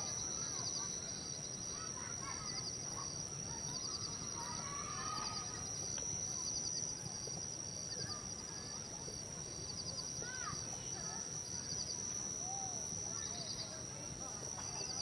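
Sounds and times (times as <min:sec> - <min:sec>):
high insect drone trilling: 0:00.0 - 0:15.0.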